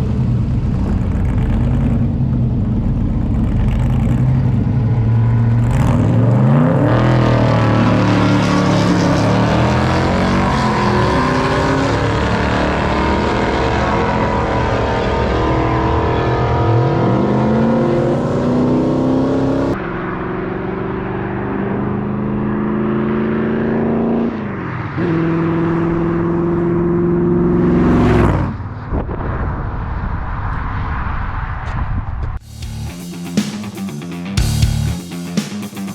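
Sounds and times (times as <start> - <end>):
car engine accelerating and shifting: 0.0 - 29.3.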